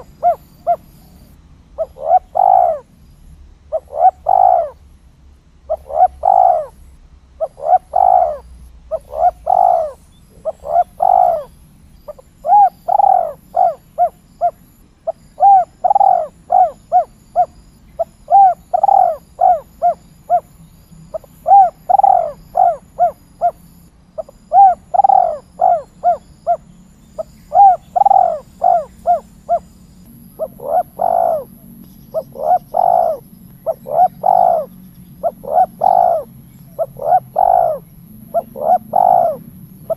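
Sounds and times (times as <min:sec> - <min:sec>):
dove cooing: 0:00.0 - 0:02.9, 0:03.7 - 0:04.8, 0:05.7 - 0:23.6, 0:24.2 - 0:39.9.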